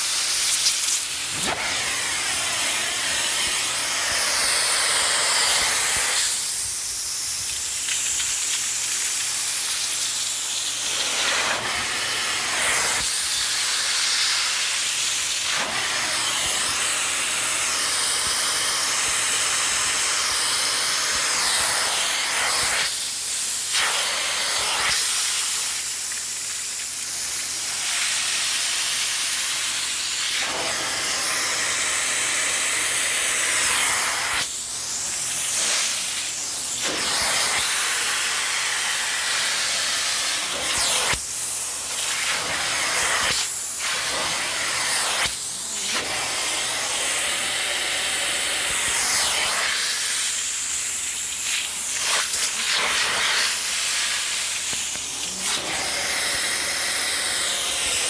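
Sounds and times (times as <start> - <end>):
steam cleaner hissing: 0.0 - 58.0.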